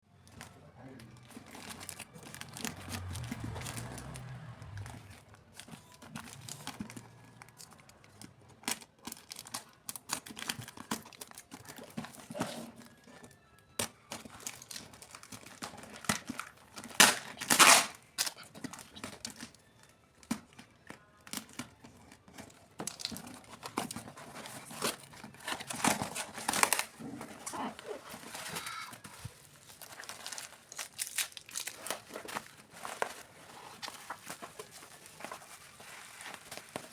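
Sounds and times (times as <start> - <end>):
plastic packaging crinkling: 0.2 - 36.9
plastic tearing: 0.2 - 36.9.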